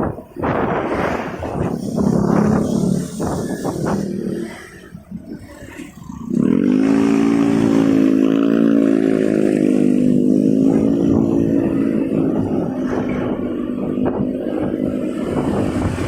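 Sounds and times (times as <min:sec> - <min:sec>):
motorcycle engine revving: 0:00.4 - 0:16.0.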